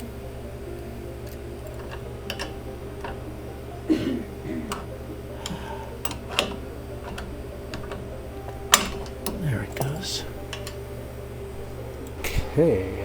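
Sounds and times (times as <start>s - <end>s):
steady low hum: 0.0s - 13.0s
tools and parts clicking and knocking: 0.7s - 3.8s, 4.4s - 12.2s.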